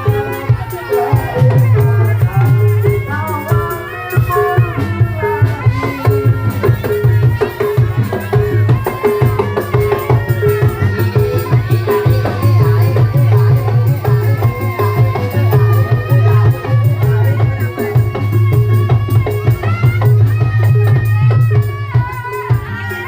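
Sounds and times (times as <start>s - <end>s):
hand drums: 0.0s - 23.0s
pitched percussion: 0.0s - 23.0s.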